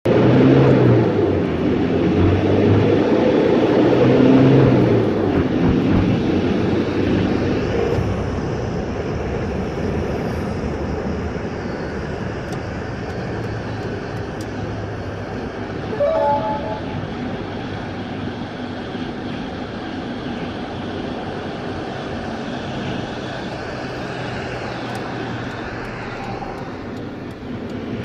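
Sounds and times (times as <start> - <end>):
vehicle engine rumbling: 0.1 - 28.0.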